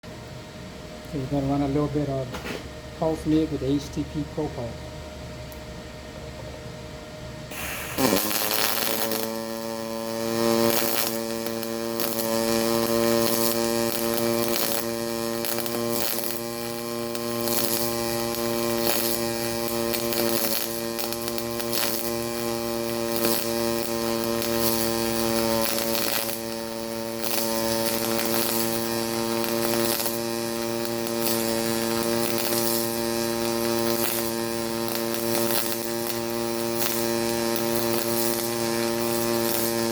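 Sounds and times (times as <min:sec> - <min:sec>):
welder arc buzzing: 0:00.1 - 0:39.9
crackling spatter: 0:07.5 - 0:39.9.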